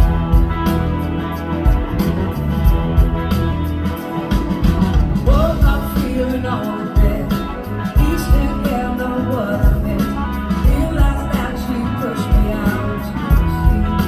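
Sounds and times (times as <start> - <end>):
bending lead guitar melody: 0.0 - 14.0
blues-rock band playing: 0.0 - 14.0.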